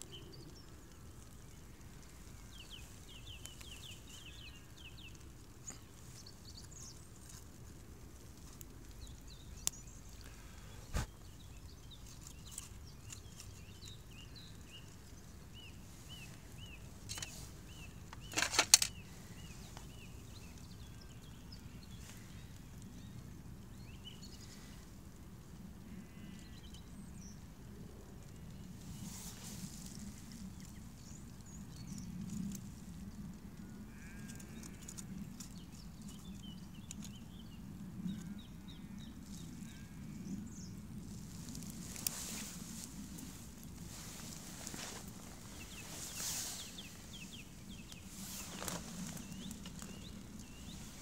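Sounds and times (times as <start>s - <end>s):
songbird chirping: 0.0s - 25.0s, 25.8s - 51.0s.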